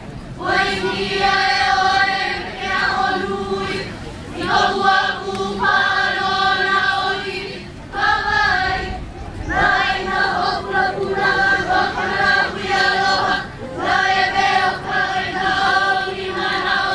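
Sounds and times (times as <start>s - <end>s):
group of voices singing: 0.3s - 16.9s.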